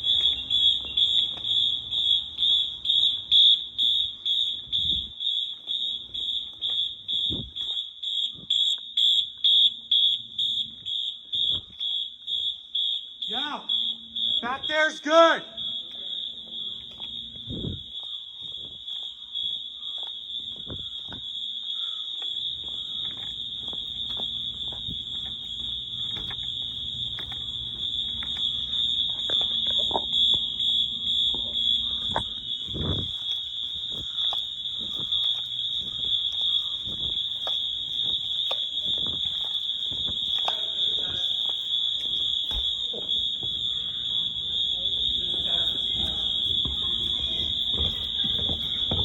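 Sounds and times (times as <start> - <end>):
fire alarm horn tone: 0.0 - 49.0.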